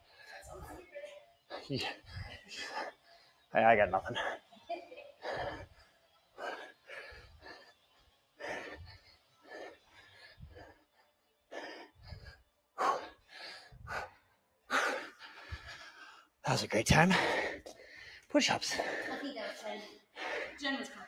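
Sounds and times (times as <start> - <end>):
people breathing hard: 0.0 - 21.0.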